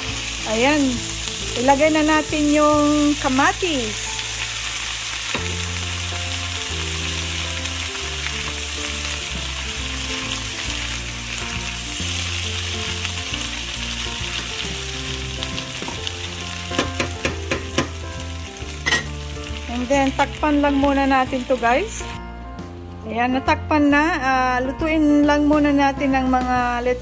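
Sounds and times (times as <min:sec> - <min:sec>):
vegetables sizzling in oil: 0:00.0 - 0:22.2
soft background music: 0:00.0 - 0:27.0.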